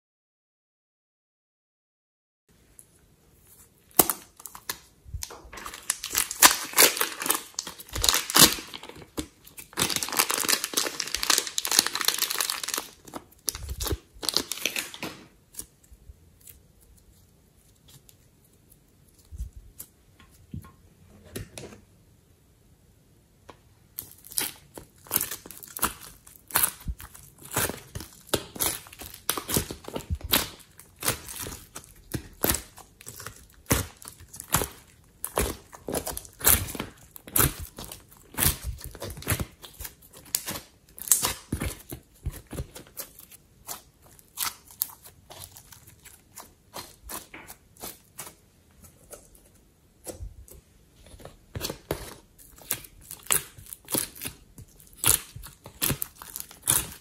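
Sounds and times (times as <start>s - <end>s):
sticky crackles of squeezed slime: 3.5s - 19.9s, 24.0s - 48.4s, 50.0s - 57.0s.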